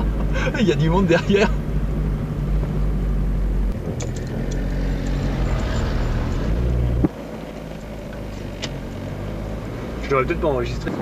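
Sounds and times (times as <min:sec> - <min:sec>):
car engine running inside cabin: 0:00.0 - 0:11.0.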